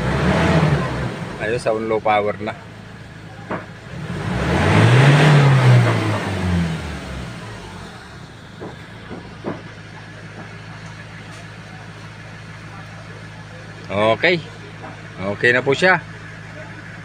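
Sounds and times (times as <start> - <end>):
engine revving and idling: 0.0 - 17.0.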